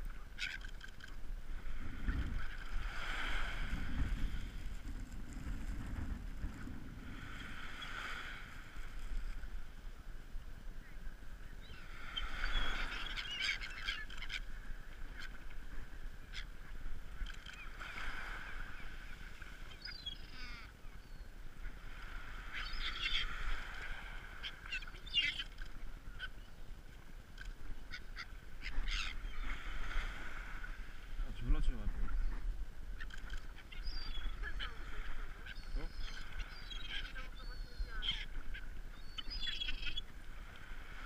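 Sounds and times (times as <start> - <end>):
gulls calling: 0.0 - 4.0, 10.8 - 41.0.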